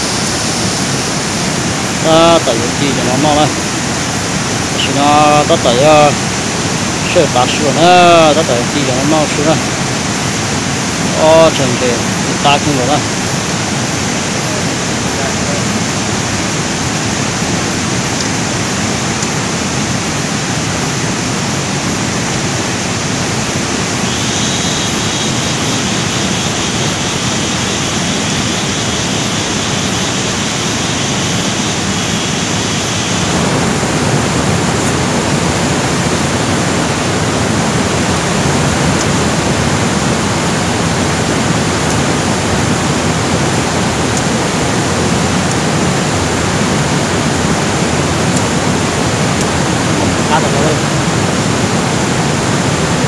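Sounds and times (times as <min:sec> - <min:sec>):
faint high whine: 0:00.0 - 0:53.0
steady rushing noise: 0:00.0 - 0:53.0.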